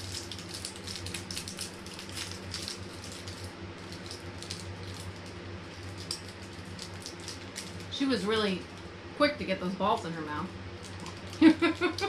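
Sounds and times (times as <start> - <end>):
wrappers crinkling: 0.0 - 8.9, 10.8 - 12.0
low steady hum: 0.0 - 12.0.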